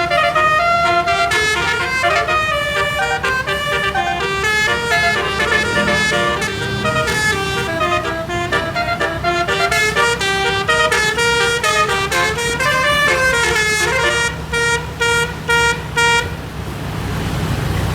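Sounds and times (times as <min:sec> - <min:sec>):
musical air horn tune: 0:00.0 - 0:16.3
low engine rumble: 0:00.0 - 0:17.9.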